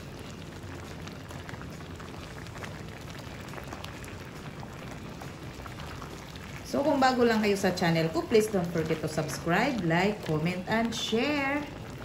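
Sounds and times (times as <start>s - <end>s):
soup simmering and bubbling: 0.0s - 12.0s.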